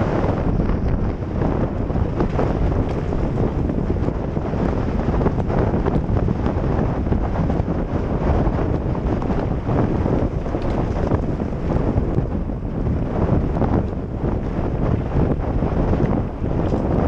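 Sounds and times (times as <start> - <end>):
bike rattling and knocking: 0.0 - 17.0
tyres rumbling on dirt trail: 0.0 - 17.0
wind buffeting microphone: 0.0 - 17.0.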